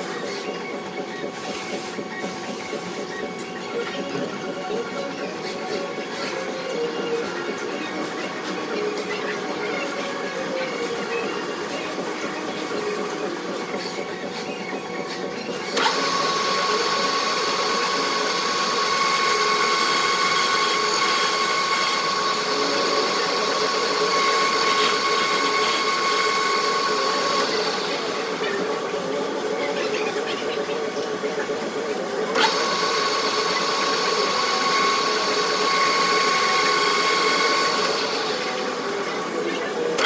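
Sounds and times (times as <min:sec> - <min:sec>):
metal lathe running: 0:00.0 - 0:40.0.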